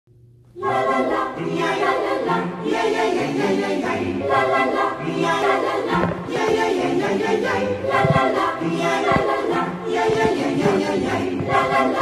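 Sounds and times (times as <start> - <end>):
choir singing sustained chords: 0.6 - 12.0.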